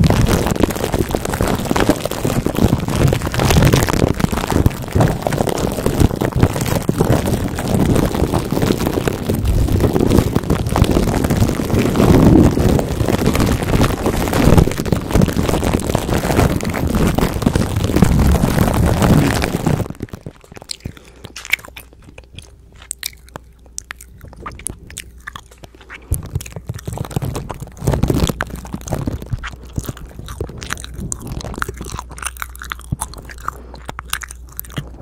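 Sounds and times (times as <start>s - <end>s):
fingers rubbing plastic wrap on mic: 0.0s - 23.0s, 25.4s - 35.0s.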